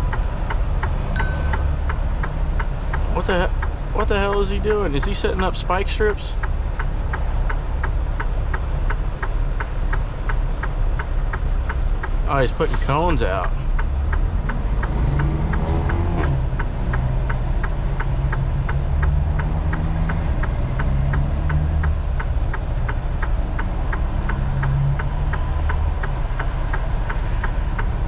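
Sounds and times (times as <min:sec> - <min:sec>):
diesel truck engine idling: 0:00.0 - 0:28.0
turn signal ticking: 0:00.0 - 0:28.0.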